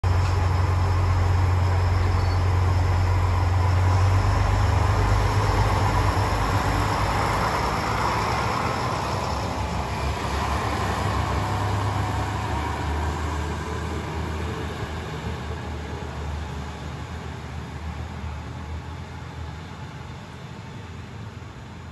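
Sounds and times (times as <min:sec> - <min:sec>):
train cars rolling: 0:00.0 - 0:21.8
diesel railcar engine hum: 0:00.0 - 0:21.9.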